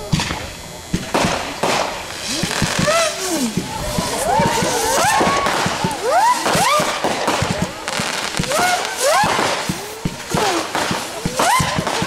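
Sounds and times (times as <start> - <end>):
fireworks bangs and crackles: 0.0 - 12.0
rising whistling fireworks: 0.0 - 12.0.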